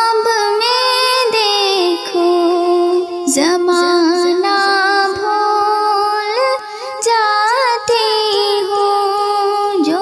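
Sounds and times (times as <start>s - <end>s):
woman singing: 0.0s - 10.0s.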